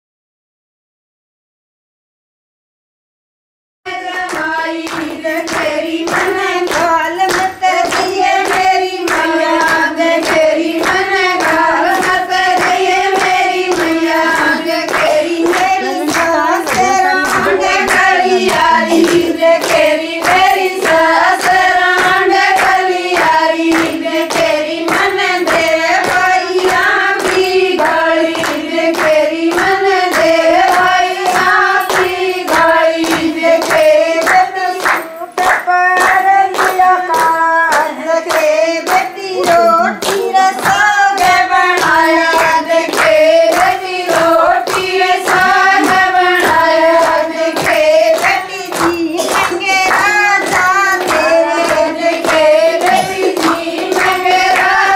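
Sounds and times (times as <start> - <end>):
rhythmic hand clapping: 3.9 - 54.9
women singing folk song: 3.9 - 54.9.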